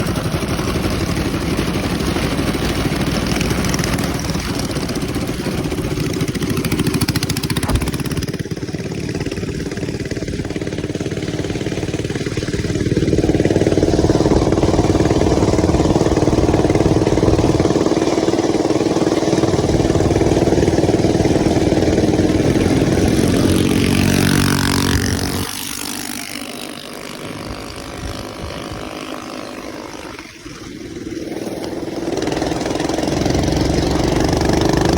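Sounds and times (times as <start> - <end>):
small gas engine running: 0.0 - 34.9.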